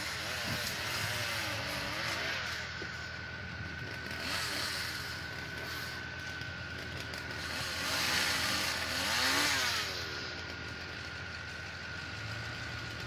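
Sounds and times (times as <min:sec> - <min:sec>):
truck engine working under load: 0:00.0 - 0:13.0.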